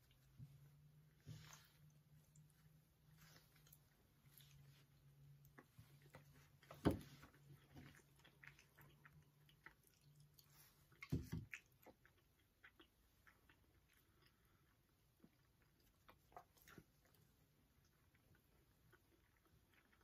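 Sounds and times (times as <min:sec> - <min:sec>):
chewing cookies: 0:00.0 - 0:20.0.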